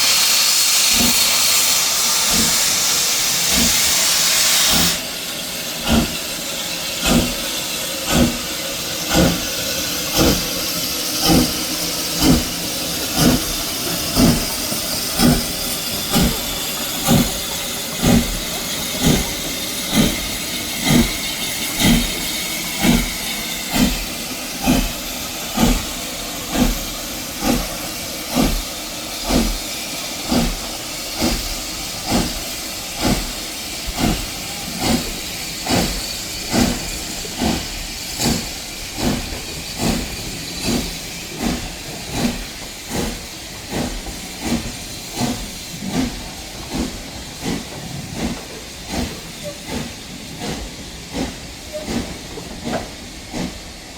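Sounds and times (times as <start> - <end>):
steam train hissing and chuffing: 0.0 - 53.9.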